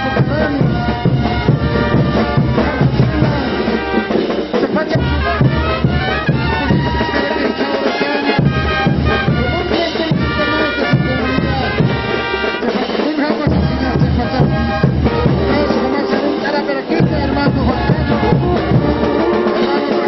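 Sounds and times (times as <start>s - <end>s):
steady drum beat: 0.0s - 20.0s
wind instruments playing melody: 0.0s - 20.0s.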